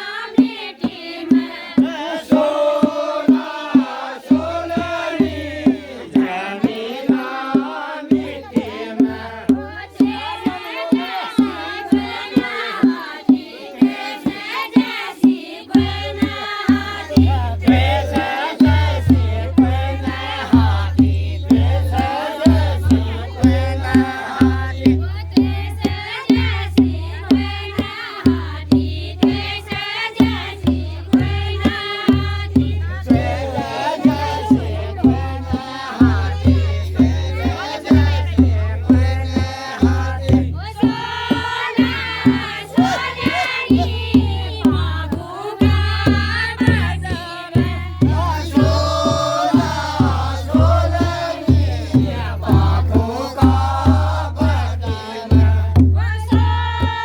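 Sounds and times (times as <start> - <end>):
group singing folk song: 0.0 - 57.0
steady drum beat: 0.0 - 57.0.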